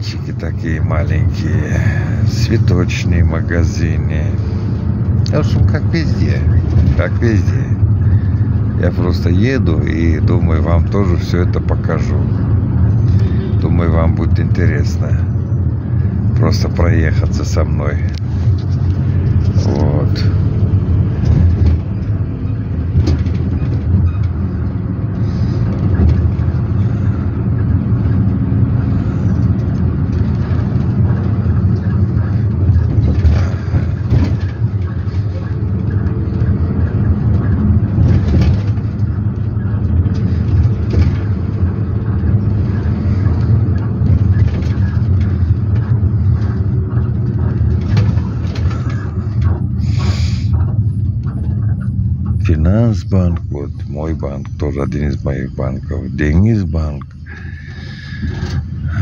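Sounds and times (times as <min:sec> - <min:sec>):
minibus engine drone: 0:00.0 - 0:59.0
road rumble: 0:00.0 - 0:59.0.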